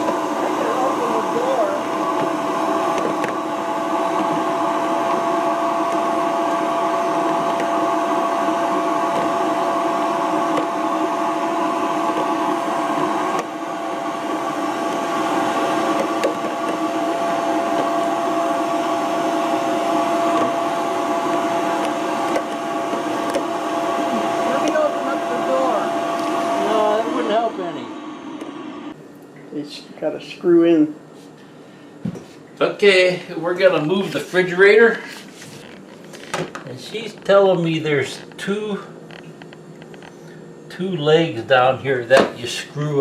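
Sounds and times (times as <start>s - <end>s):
vacuum cleaner running: 0.0s - 29.0s, 32.8s - 38.9s.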